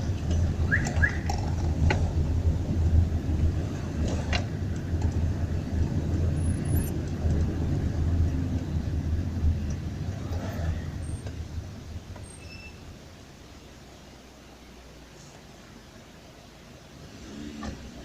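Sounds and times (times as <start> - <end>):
car engine and traffic drone: 0.0 - 18.0.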